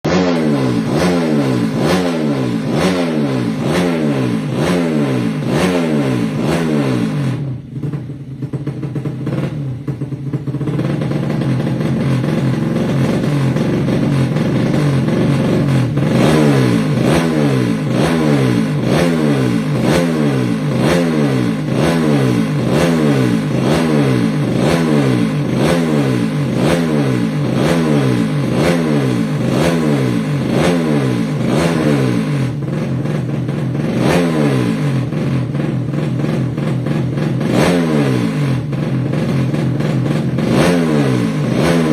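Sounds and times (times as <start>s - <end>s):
motorcycle engine revving hard: 0.0s - 41.9s.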